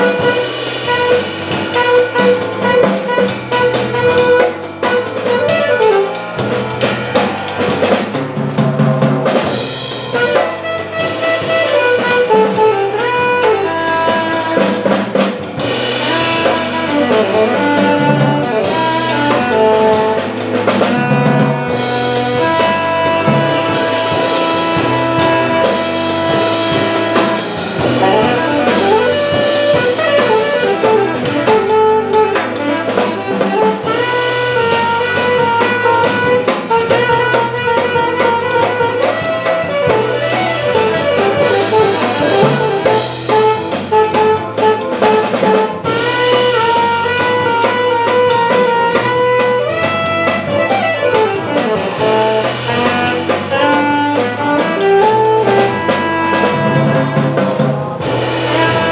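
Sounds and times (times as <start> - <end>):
saxophone melody: 0.0 - 8.6, 9.3 - 58.9
drum kit cymbals: 0.0 - 58.9
organ chords and bass line: 0.0 - 58.9.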